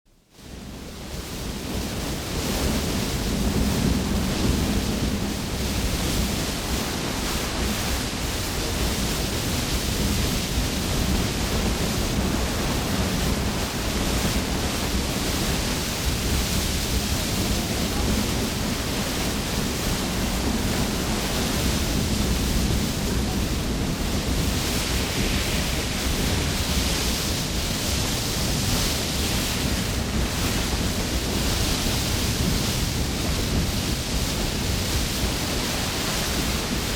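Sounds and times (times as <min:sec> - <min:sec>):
waterfall rushing and splashing: 0:01.4 - 0:36.9.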